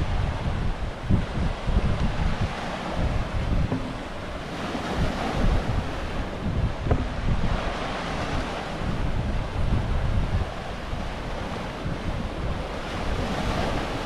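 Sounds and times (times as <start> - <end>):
ocean surf washing in: 0.0 - 14.0
wind gusting against microphone: 0.0 - 14.0.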